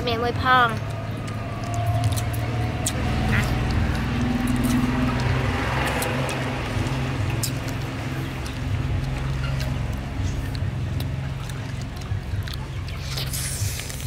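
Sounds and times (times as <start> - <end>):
faint clicks of people chewing: 0.7 - 14.0.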